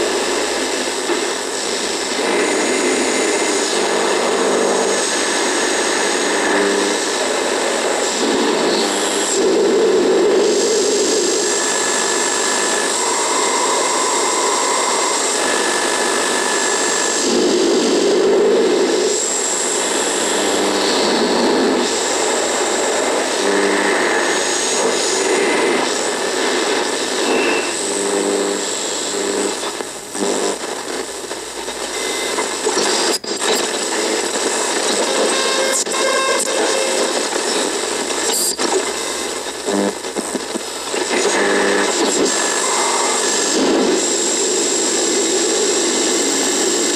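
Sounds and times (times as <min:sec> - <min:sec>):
radio static: 0:00.0 - 0:46.9.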